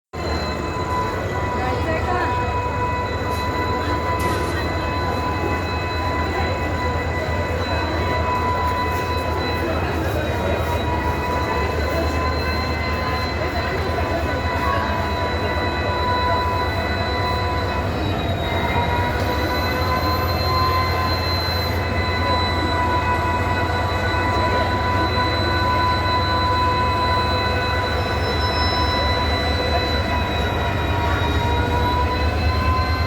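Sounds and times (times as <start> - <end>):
high whine: 0.2 - 33.0.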